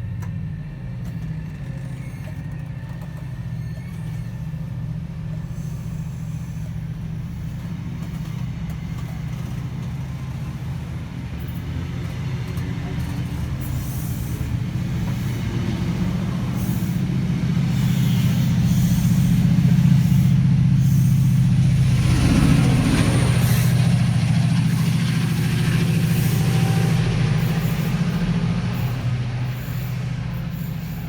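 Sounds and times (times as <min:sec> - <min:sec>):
diesel train engine humming: 0:00.0 - 0:31.0.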